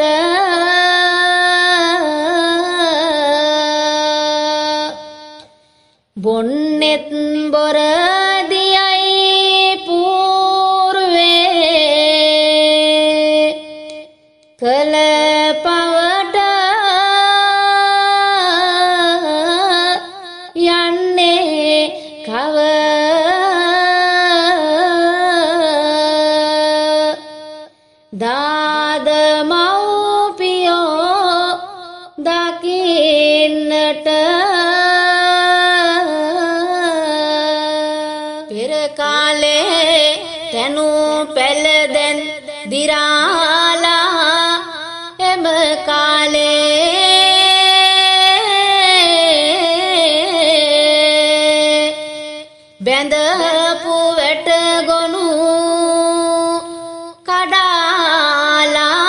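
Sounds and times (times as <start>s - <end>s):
person singing folk verses: 0.0s - 59.0s.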